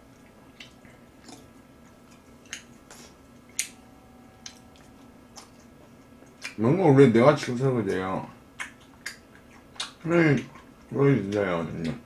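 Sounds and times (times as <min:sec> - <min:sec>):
person chewing with open mouth: 0:00.0 - 0:06.8, 0:08.4 - 0:12.0
faint steady hum: 0:00.0 - 0:12.0.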